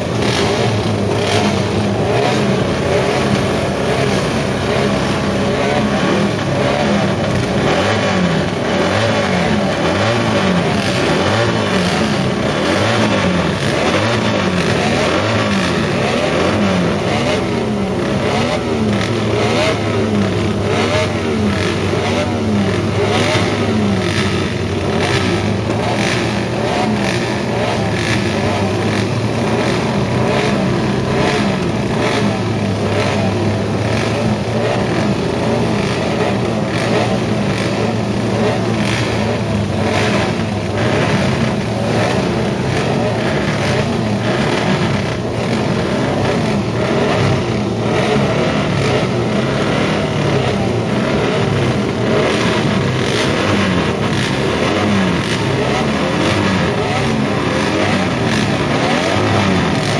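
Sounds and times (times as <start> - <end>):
racing motorcycles revving: 0.0 - 59.9
sharp exhaust cracks: 0.0 - 59.9.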